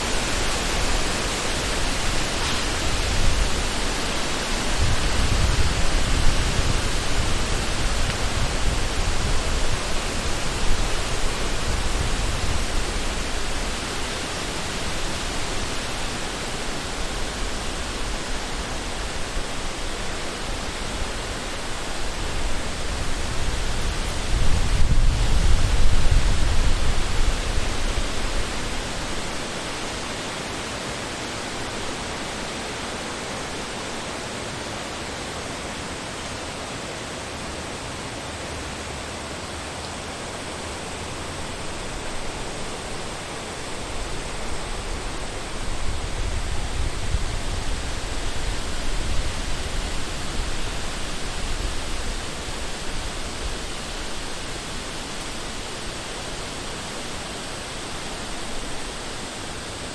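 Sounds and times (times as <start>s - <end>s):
wind blowing through forest: 0.0s - 59.9s.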